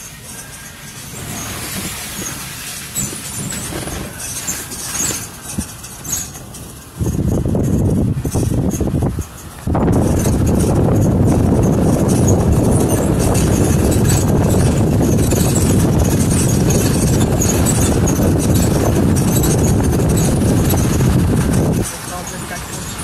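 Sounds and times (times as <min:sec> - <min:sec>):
gravel crackling under tyres: 0:00.0 - 0:23.0
truck tyres rumbling on dirt road: 0:00.0 - 0:23.0.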